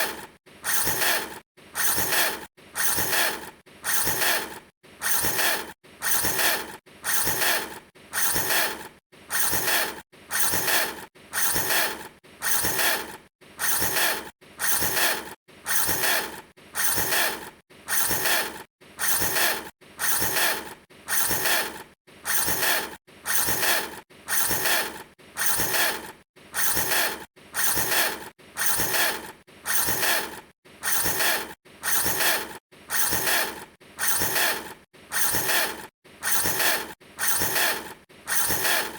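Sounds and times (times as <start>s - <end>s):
short mechanical bursts: 0.0s - 38.9s.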